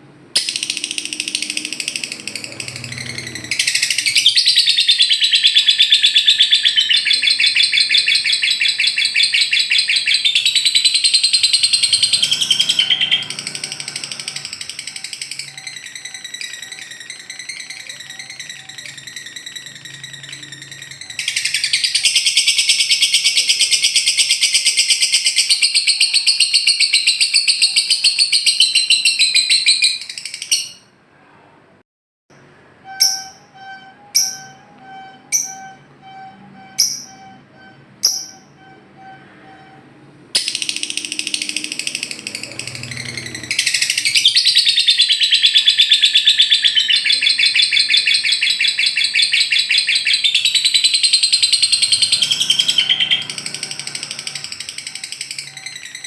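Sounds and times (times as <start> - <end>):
lovebird chattering trills: 0.4 - 30.8, 40.4 - 56.0
sharp bird chirps: 0.4 - 30.9, 32.8 - 39.8, 40.4 - 56.0.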